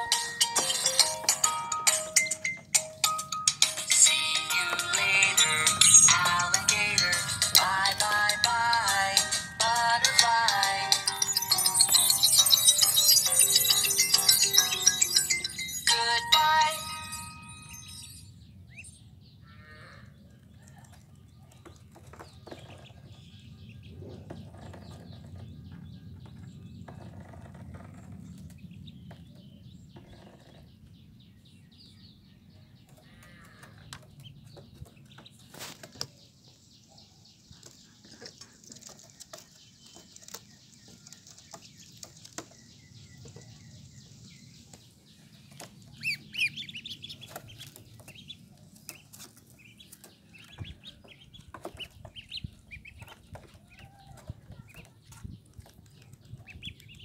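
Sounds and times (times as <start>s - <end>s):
ducklings peeping: 0.0s - 17.4s, 18.6s - 19.2s, 20.0s - 57.0s.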